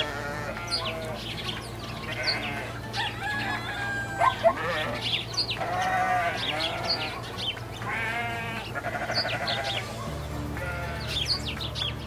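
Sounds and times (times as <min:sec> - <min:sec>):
goats or sheep bleating: 0:00.0 - 0:11.4.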